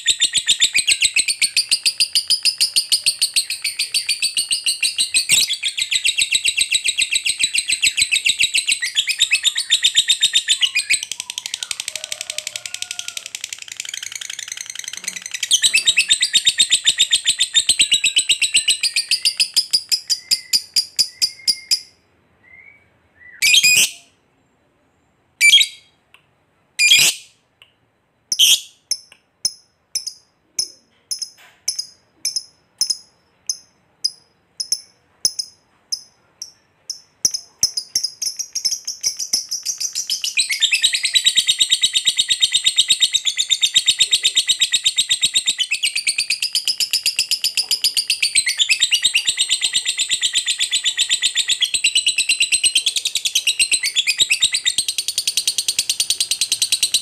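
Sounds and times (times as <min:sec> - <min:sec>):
bird chattering trill: 0:00.0 - 0:21.8, 0:28.3 - 0:57.0.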